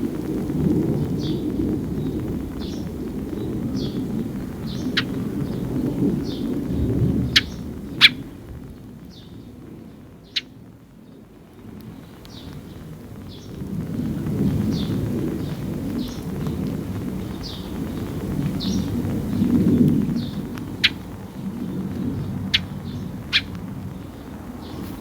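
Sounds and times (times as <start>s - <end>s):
sparrow chirping: 1.0s - 11.2s, 12.2s - 13.6s, 14.7s - 25.0s.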